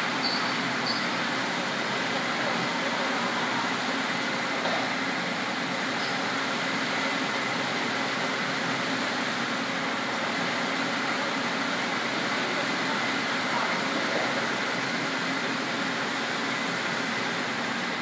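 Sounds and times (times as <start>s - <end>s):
factory machinery hum: 0.0s - 18.0s.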